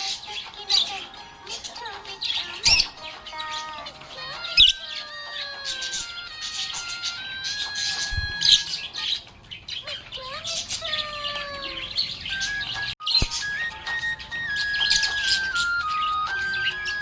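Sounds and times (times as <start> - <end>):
background music: 0.0 - 9.0, 12.1 - 17.0
budgerigar chirping: 0.0 - 13.7.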